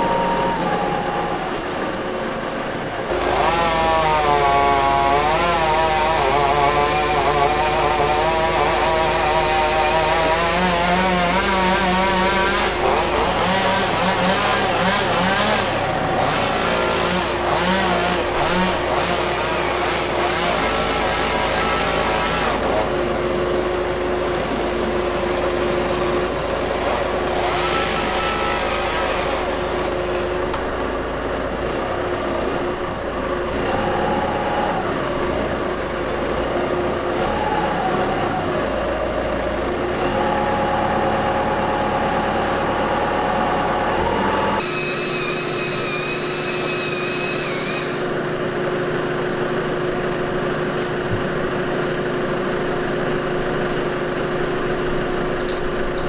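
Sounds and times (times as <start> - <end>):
heavy machinery engine running: 0.0 - 56.0.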